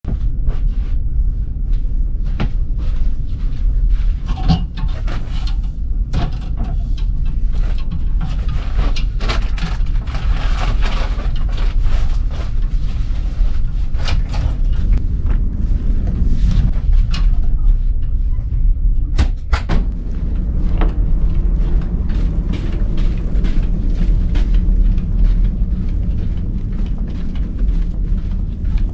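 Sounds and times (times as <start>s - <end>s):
low mechanical rumble: 0.1s - 28.9s.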